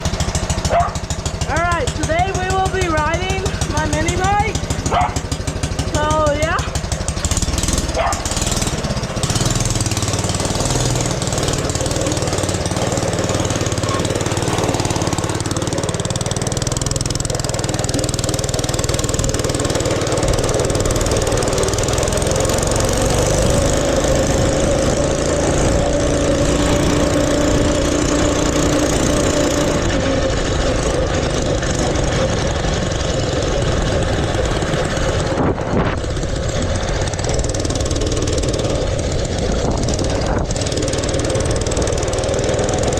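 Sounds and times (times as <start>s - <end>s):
mini bike engine running: 0.0s - 42.9s.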